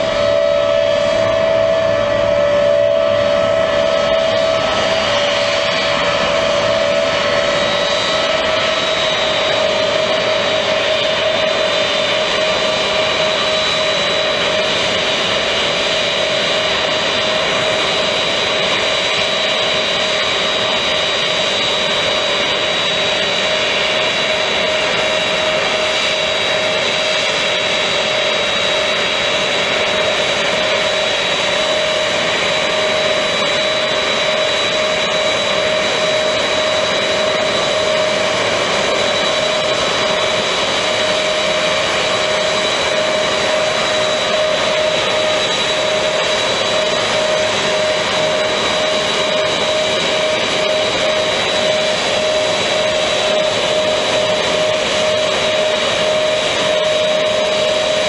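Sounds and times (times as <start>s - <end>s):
jet engines roaring with whine: 0.0s - 58.0s.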